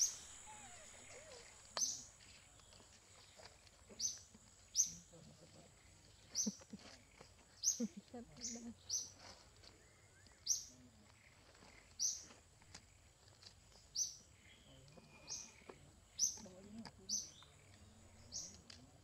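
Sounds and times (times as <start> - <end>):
bird chirping: 0.0 - 13.0, 13.7 - 18.8.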